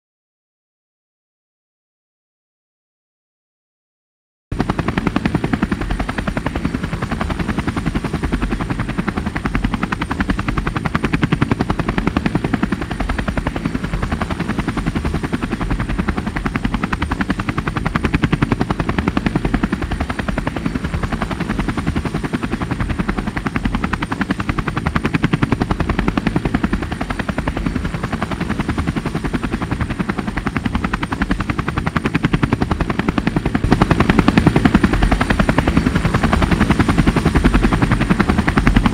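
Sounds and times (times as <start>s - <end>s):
drone propellers buzzing: 4.6s - 38.9s.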